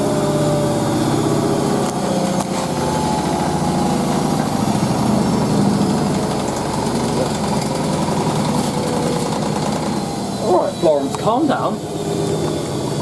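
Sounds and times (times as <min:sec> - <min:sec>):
washing machine spinning: 0:00.0 - 0:13.0.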